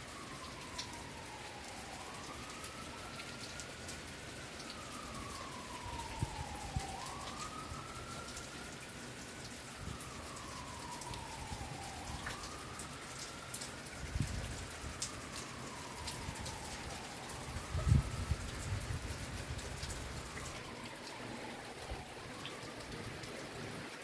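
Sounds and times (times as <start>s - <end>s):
rain hissing: 0.0s - 24.0s
siren wailing: 0.0s - 24.0s.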